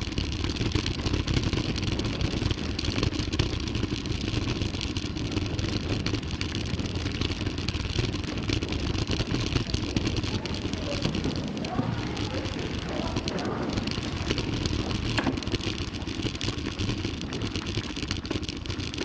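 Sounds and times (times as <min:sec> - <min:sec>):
bike rattles and knocks: 0:00.0 - 0:19.0
wind and tyres rumbling: 0:00.0 - 0:19.0.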